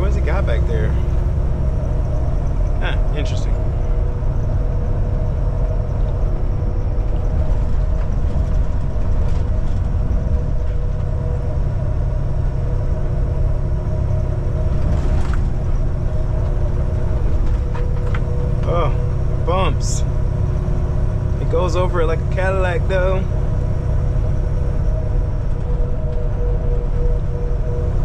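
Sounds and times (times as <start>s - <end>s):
truck engine and road drone: 0.0s - 28.0s.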